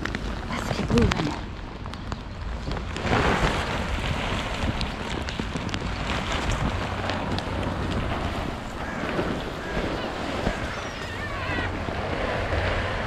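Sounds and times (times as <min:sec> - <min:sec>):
rain pattering: 0:00.0 - 0:13.0
wind buffeting microphone: 0:00.0 - 0:13.0.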